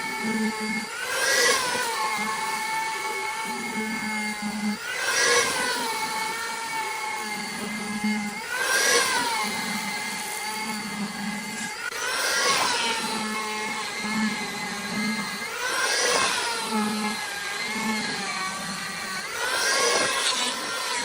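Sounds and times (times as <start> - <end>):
electric power tool whining: 0.0 - 21.0.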